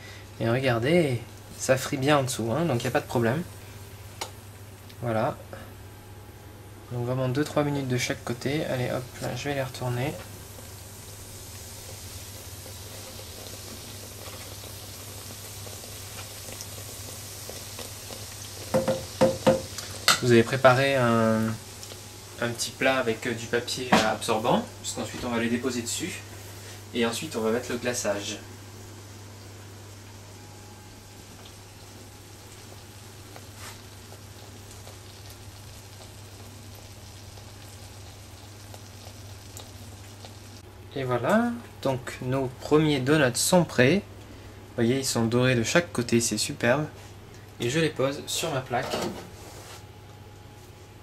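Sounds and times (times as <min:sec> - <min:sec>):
doughnuts bubbling in fryer oil: 0:00.0 - 0:51.0.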